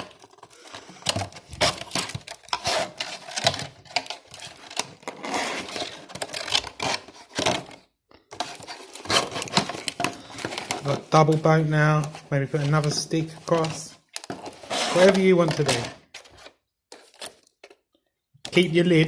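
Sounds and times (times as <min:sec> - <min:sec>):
plastic bottles clicking and crackling: 0:00.0 - 0:19.0.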